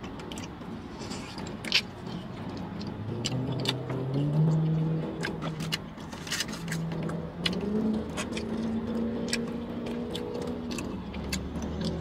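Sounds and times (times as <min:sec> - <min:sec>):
man chewing: 0:00.0 - 0:12.0.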